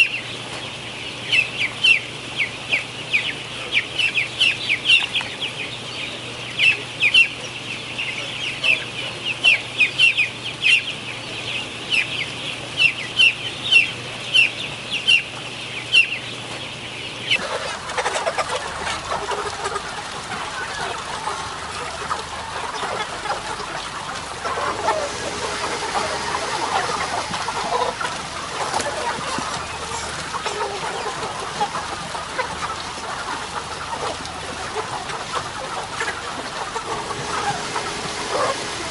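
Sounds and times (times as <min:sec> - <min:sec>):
chicks peeping: 0:00.0 - 0:38.9
flock of chickens clucking: 0:00.0 - 0:38.9.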